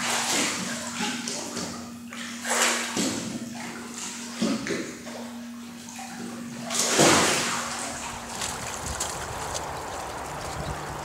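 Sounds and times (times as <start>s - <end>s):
pool water splashing: 0.0s - 11.0s
steady low hum: 0.0s - 11.0s.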